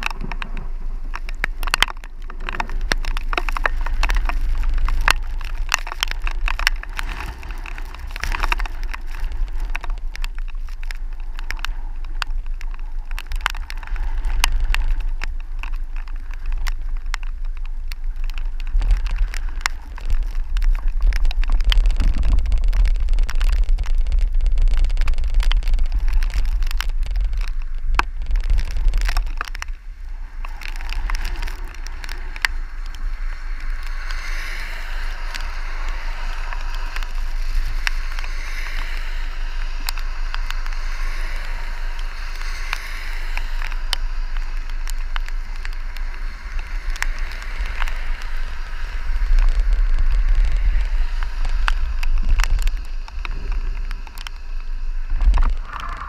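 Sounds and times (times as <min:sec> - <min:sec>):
sharp ticks: 0:00.0 - 0:56.0
storm wind buffeting microphone: 0:00.0 - 0:56.0.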